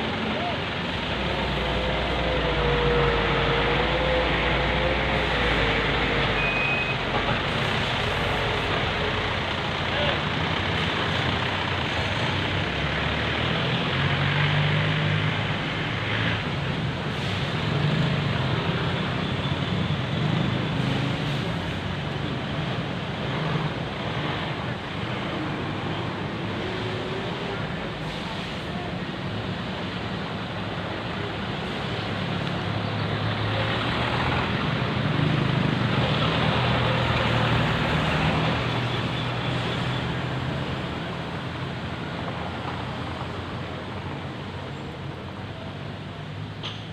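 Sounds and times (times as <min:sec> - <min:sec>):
truck and car engines passing: 0:00.0 - 0:46.9.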